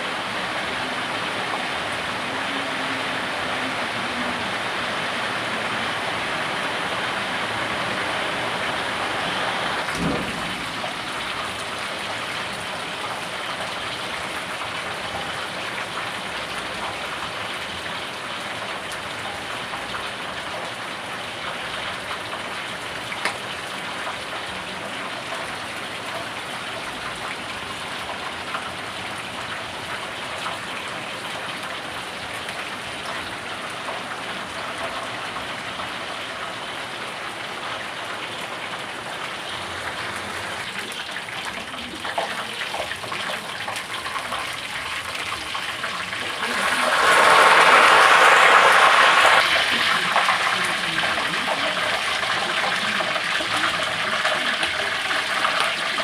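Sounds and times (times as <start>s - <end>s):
chicken deep-frying in oil: 0.0s - 56.0s.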